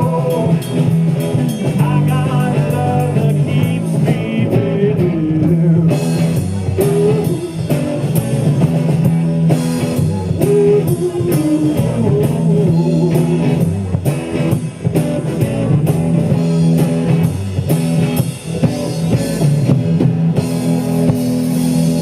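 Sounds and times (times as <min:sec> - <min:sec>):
bass: 0:00.0 - 0:22.0
drum kit beat: 0:00.0 - 0:22.0
guitar: 0:00.0 - 0:22.0.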